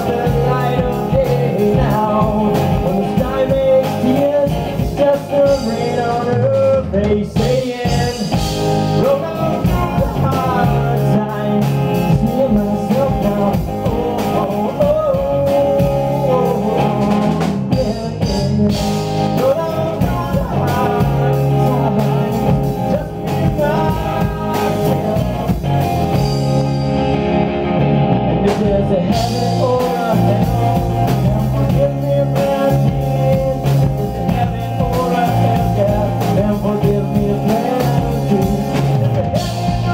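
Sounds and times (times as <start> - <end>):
person singing: 0.0 - 26.5, 28.3 - 39.9
bass guitar: 0.0 - 39.9
drum kit: 0.0 - 39.9
electric guitar: 0.0 - 39.9.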